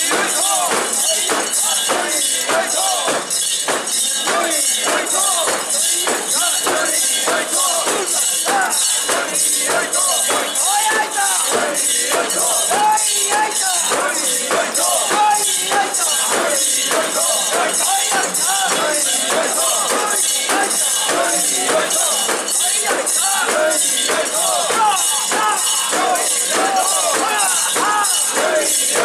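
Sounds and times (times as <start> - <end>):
crowd chanting in rhythm: 0.0 - 29.0.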